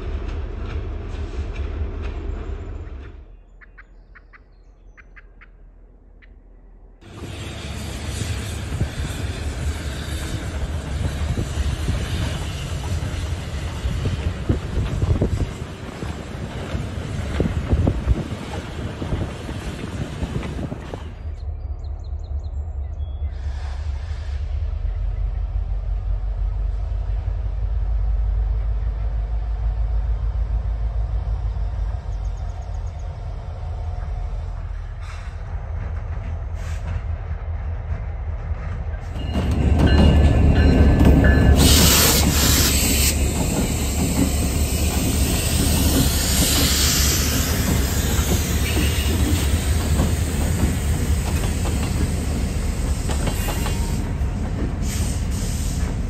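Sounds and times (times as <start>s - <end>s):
diesel locomotives rumbling: 0.0s - 56.0s.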